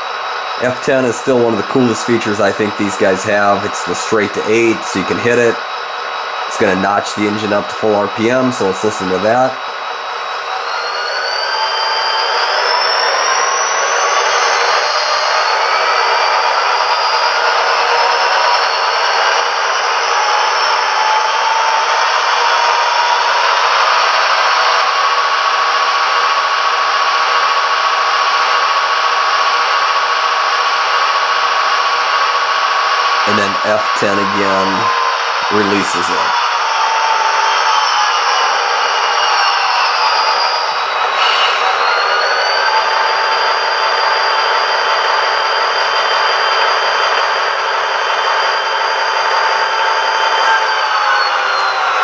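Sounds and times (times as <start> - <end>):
tinny model diesel engine sound: 0.0 - 52.0.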